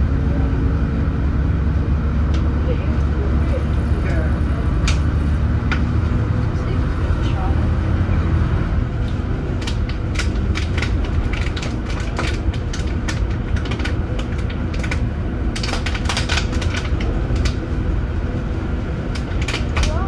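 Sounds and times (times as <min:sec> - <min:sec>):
bus body rattling and clicking: 0:00.0 - 0:20.0
bus diesel engine droning: 0:00.0 - 0:20.0.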